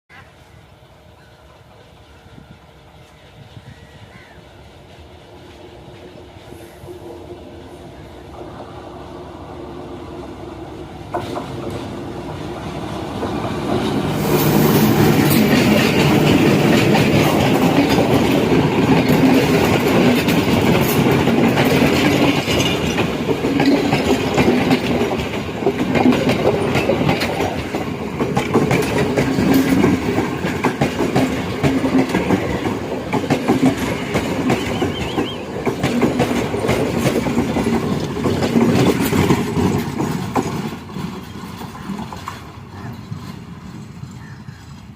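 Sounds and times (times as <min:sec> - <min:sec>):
locomotive engine hum: 0:00.2 - 0:44.9
train wheels clattering over rails: 0:02.2 - 0:44.9.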